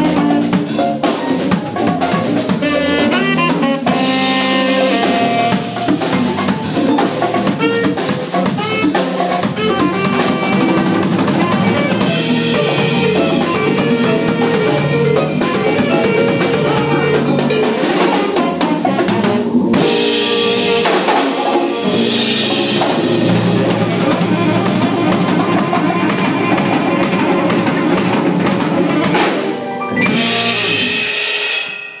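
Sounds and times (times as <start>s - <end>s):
drum kit: 0.0s - 32.0s
latin jazz band playing: 0.0s - 32.0s.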